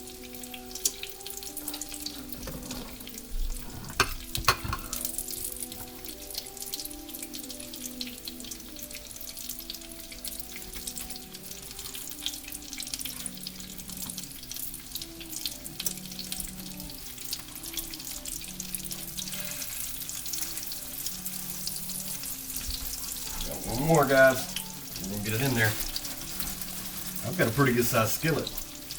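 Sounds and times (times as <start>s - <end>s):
chicken frying in hot oil: 0.0s - 28.9s.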